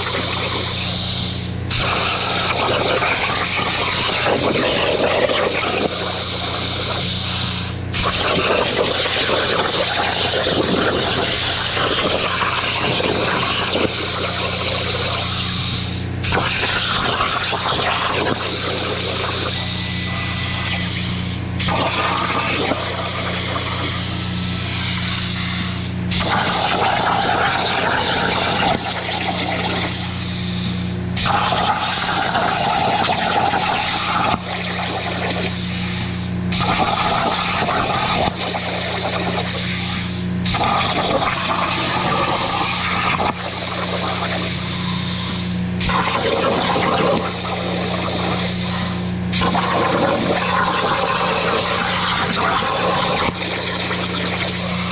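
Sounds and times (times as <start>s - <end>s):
plasma cutter hissing: 0.0s - 54.9s.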